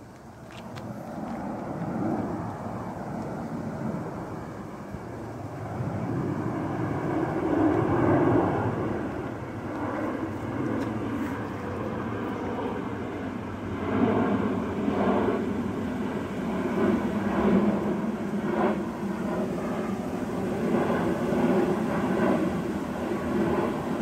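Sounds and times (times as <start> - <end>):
jet airliner flying overhead: 0.0 - 24.0.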